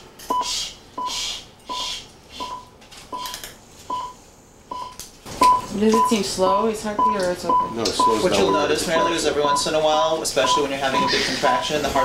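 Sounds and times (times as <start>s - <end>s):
heart monitor beeps: 0.3s - 12.0s.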